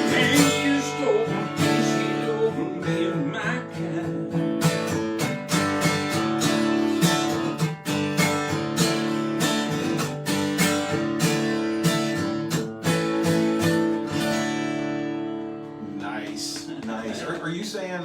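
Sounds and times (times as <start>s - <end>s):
acoustic guitar strumming: 0.0s - 17.4s.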